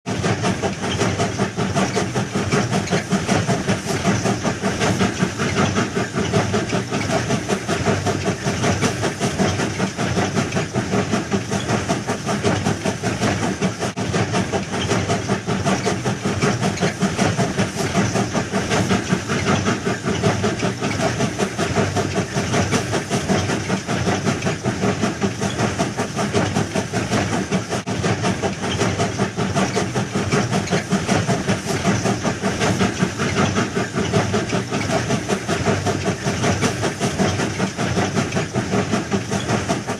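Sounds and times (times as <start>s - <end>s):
train clattering: 0.1s - 39.9s.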